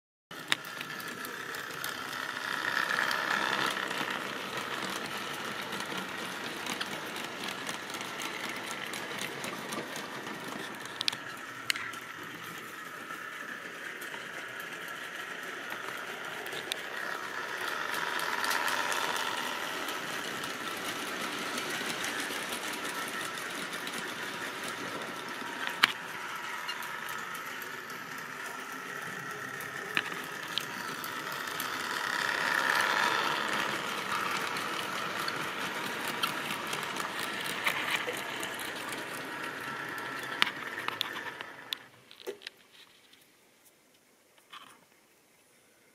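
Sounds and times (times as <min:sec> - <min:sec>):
model train motors whirring: 0:00.4 - 0:42.5.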